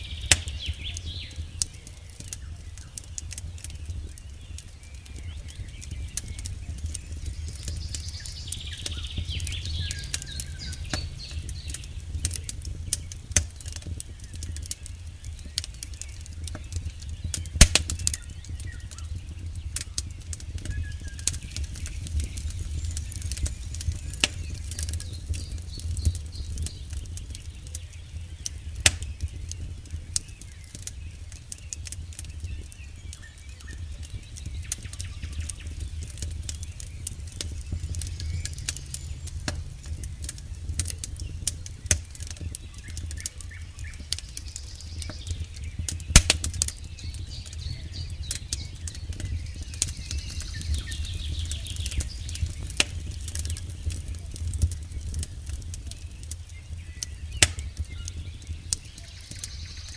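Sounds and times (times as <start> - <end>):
burning wood crackling and popping: 0.0 - 59.9
low rumble of flames: 0.0 - 59.9.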